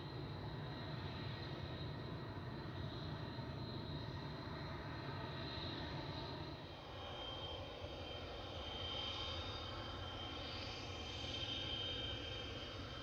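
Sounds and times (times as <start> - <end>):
high jet engine whine: 0.0 - 13.0.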